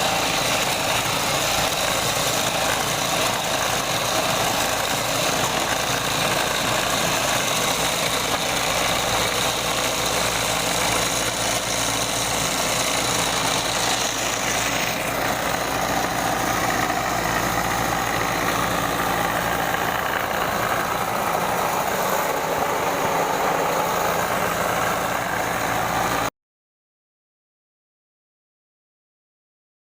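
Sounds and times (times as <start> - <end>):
electric motor humming: 0.0 - 26.3.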